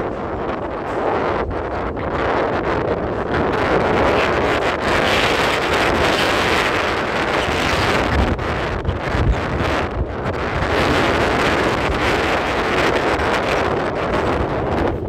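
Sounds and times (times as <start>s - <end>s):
electric train rumbling past: 0.0s - 15.0s
wind buffeting microphone: 0.0s - 15.0s.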